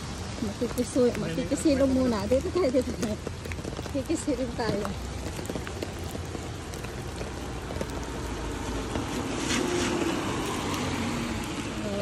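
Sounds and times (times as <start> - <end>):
steady rain falling: 0.0 - 12.0
water running: 0.0 - 12.0.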